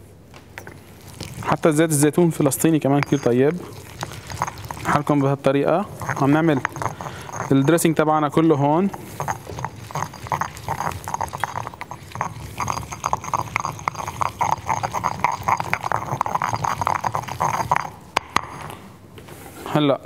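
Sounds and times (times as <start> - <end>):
pestle pounding in stone mortar: 0.6 - 18.9.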